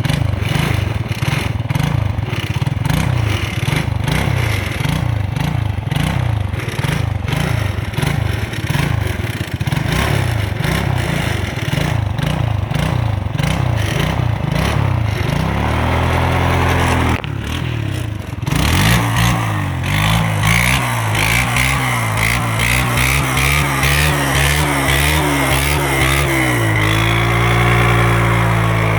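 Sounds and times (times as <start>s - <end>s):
engine revving: 0.0s - 28.9s.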